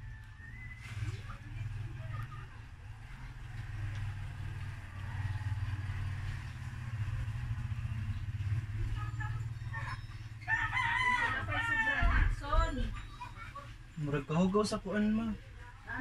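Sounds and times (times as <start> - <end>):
low motor rumble: 0.0 - 13.9.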